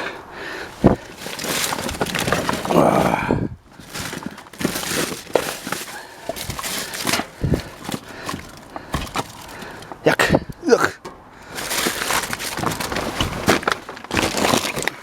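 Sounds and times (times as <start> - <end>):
trash scraping and rustling: 0.0 - 15.0
debris knocks and clicks: 0.8 - 15.0.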